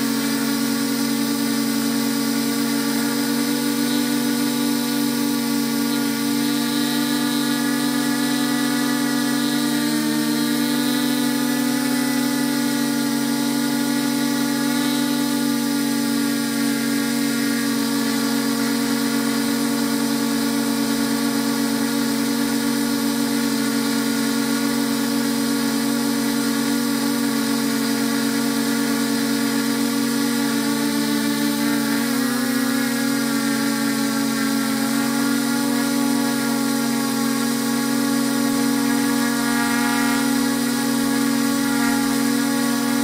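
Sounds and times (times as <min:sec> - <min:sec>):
drone propellers humming: 0:00.0 - 0:43.0.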